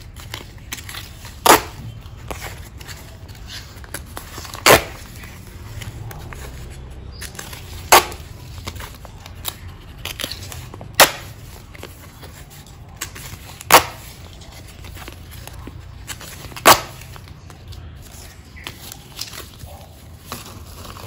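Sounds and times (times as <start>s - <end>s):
paper rustling: 0.0s - 21.0s.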